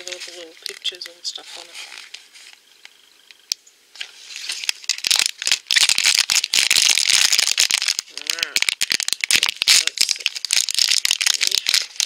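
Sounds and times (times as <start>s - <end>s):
foil bag crinkling: 0.0s - 2.6s, 4.0s - 12.0s.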